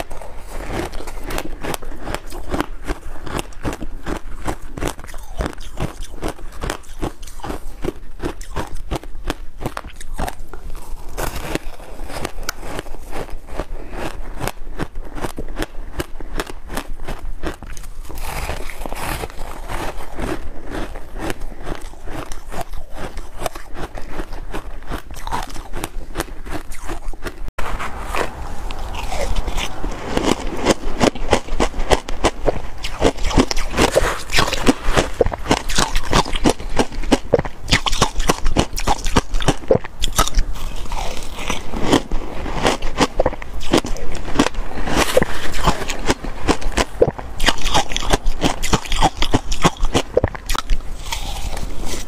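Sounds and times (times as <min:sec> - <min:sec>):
ice being crunched by teeth: 0:00.0 - 0:27.5, 0:28.2 - 0:52.0.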